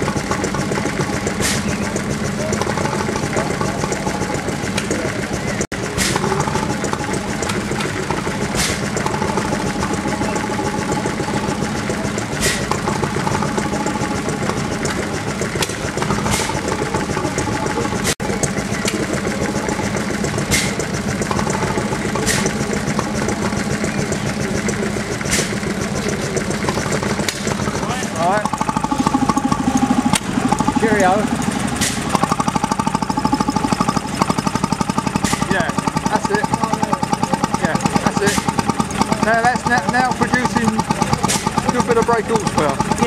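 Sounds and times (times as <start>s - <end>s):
stationary engines chuffing: 0.0s - 43.0s.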